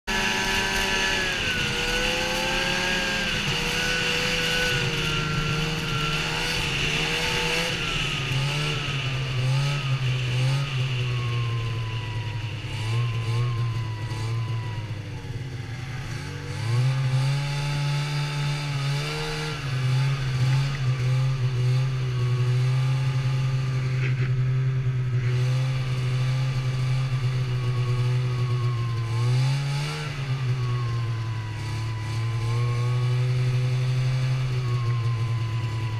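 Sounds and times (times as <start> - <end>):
snowmobile engine running: 0.0 - 35.9.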